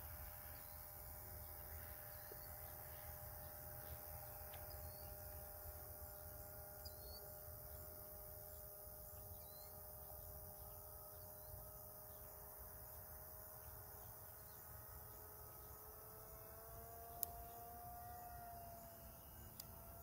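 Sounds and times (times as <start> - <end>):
distant electric motor hum: 0.0 - 20.0.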